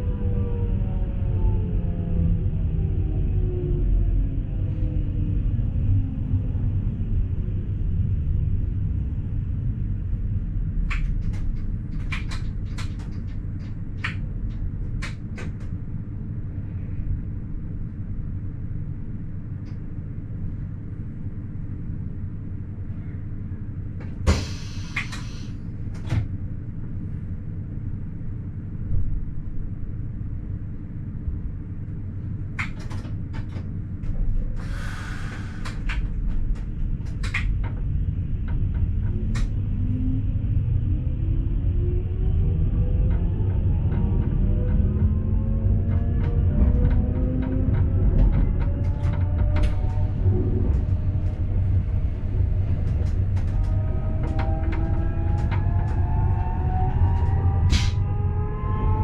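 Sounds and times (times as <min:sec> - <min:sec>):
electric railcar rumbling: 0:00.0 - 0:59.0.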